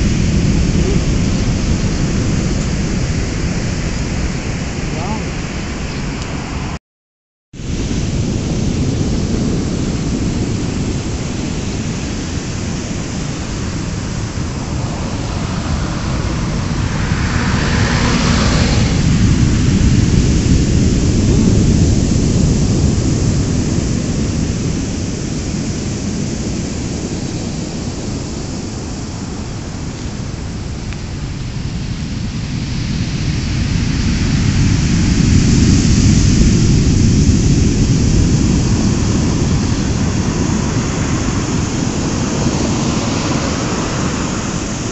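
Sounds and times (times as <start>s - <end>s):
heavy surf: 0.0s - 6.8s, 7.6s - 44.9s
wind rumbling on microphone: 0.0s - 6.8s, 7.6s - 44.9s.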